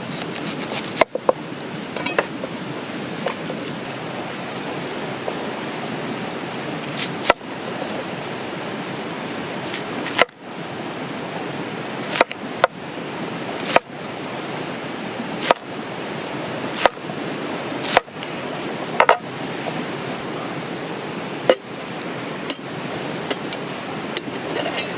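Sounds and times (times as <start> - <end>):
flowing river water: 0.0 - 24.9.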